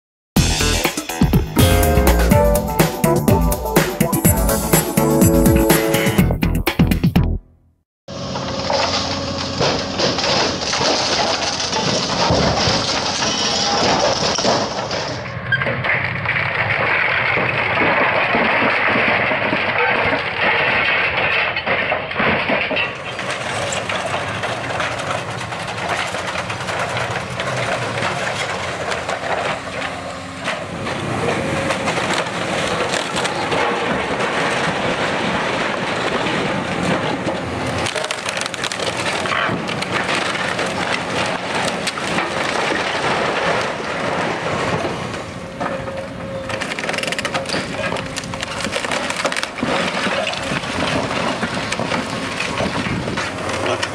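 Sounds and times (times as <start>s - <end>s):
wooden beams cracking: 8.4s - 30.6s, 31.2s - 53.9s
roof tiles and rubble crashing: 8.6s - 29.9s, 30.5s - 53.9s.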